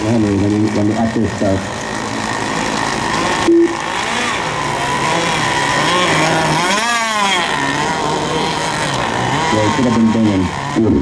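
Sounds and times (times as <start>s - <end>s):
boat engine revving: 0.0s - 11.0s
model boat engines running: 0.0s - 11.0s.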